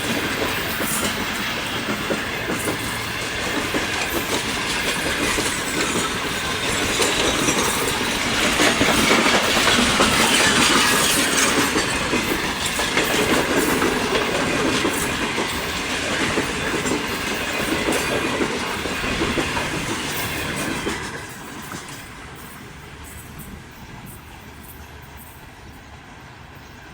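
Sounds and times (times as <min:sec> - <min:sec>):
train wheels clattering: 0:00.0 - 0:26.9.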